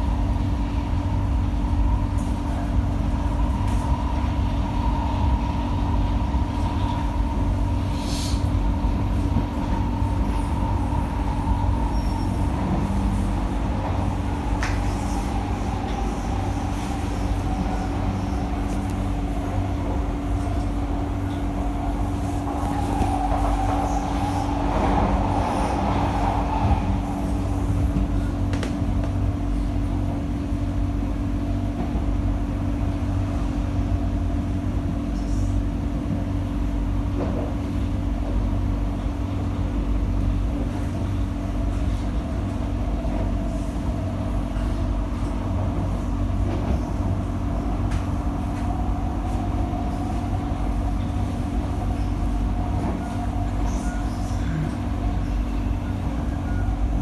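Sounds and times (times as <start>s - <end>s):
low hum of train car: 0.0s - 57.0s
wheels rumbling on rail: 0.0s - 57.0s.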